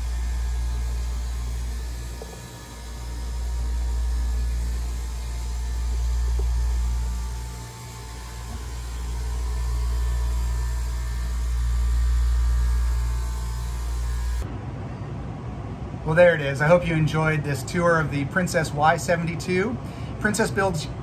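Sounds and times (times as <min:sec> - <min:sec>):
engine room machinery rumble: 0:00.0 - 0:21.0.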